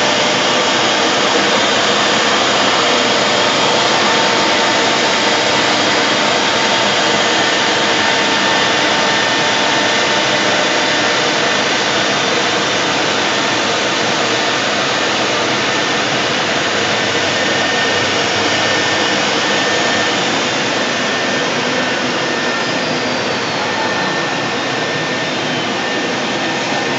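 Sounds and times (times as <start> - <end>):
router spindle rushing whine: 0.0 - 26.9.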